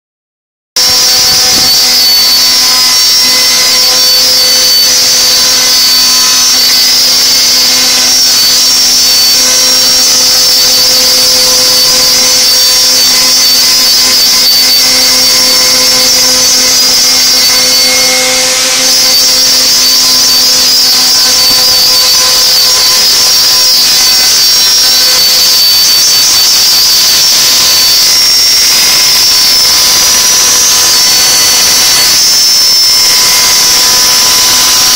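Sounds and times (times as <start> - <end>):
router spindle whine and hiss: 0.8 - 34.9.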